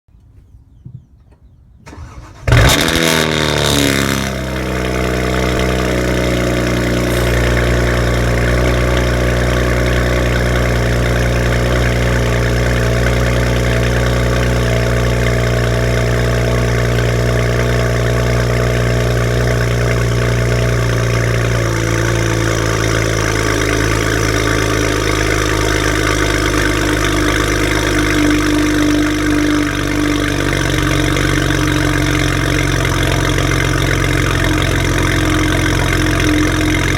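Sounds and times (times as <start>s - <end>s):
car engine cold start and idle: 1.8s - 36.9s.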